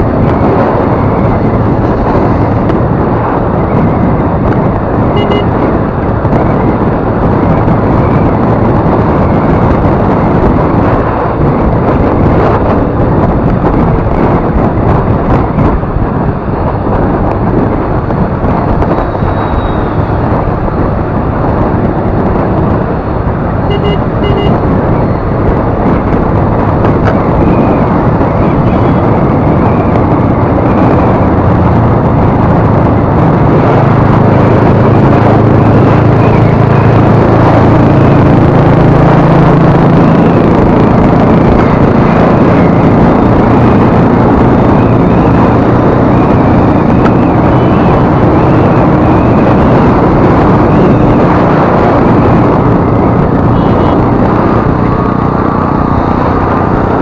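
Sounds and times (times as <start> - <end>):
low engine hum: 0.0 - 57.0
wind and road noise: 0.0 - 57.0.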